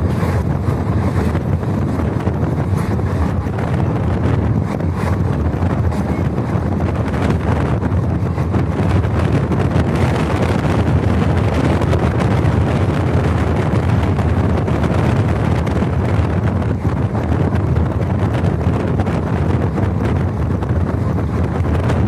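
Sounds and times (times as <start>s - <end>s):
train rumbling: 0.0s - 22.0s
wind buffeting microphone: 0.0s - 22.0s.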